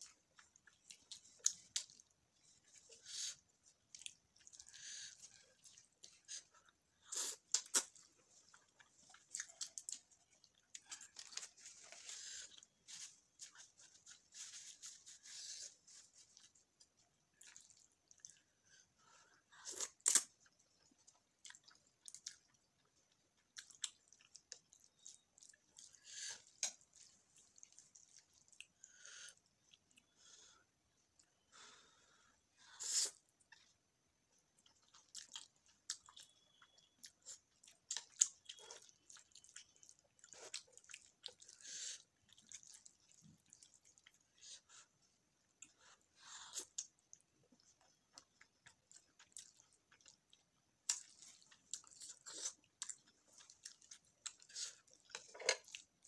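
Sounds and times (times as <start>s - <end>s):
wet chewing and mouth noises: 0.0s - 31.7s, 32.6s - 56.0s.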